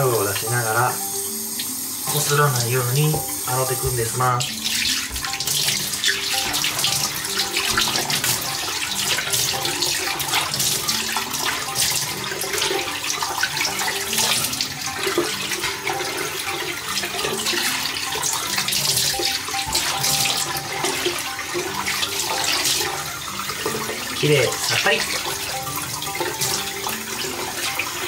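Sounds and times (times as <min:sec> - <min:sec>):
tap running into basin: 0:00.0 - 0:28.0.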